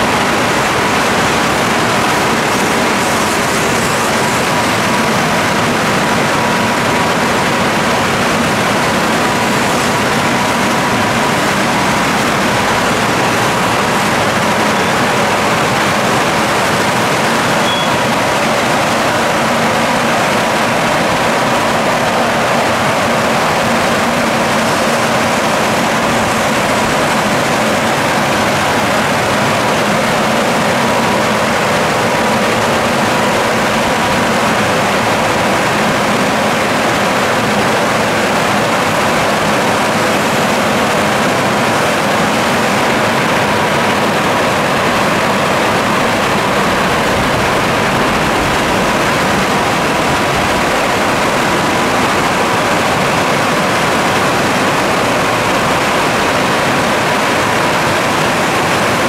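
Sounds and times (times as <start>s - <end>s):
drying blowers rushing air: 0.0s - 59.0s.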